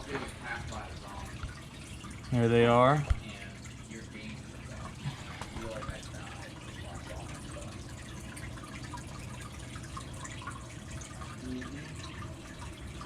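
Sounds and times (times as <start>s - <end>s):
filter low hum: 0.0s - 13.0s
water trickling and dripping: 0.0s - 13.0s.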